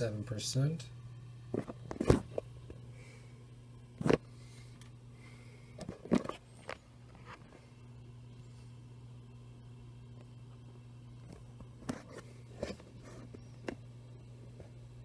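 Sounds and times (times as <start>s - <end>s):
computer humming: 0.0s - 15.0s.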